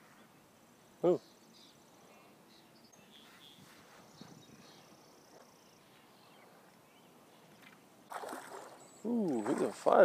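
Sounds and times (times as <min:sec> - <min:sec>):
distant bird chirps: 0:01.0 - 0:10.0.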